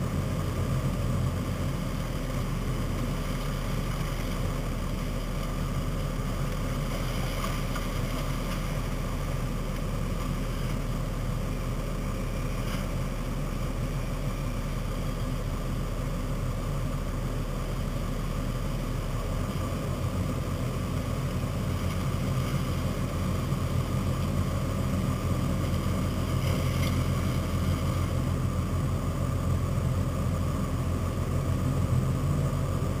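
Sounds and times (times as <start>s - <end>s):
off-road engines running: 0.0s - 33.0s.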